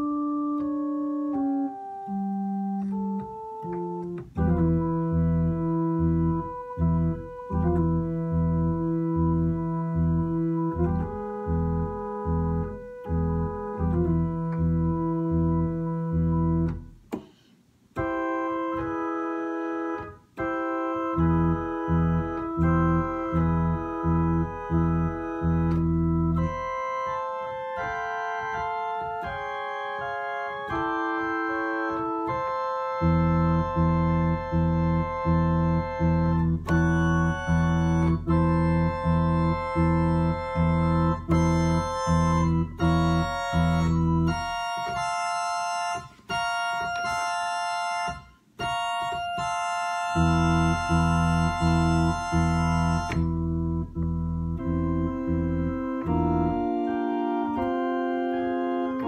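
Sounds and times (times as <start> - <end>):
organ playing sustained chords: 0.0 - 17.1, 17.9 - 59.0
deep organ bass notes: 0.0 - 17.2, 17.8 - 59.0.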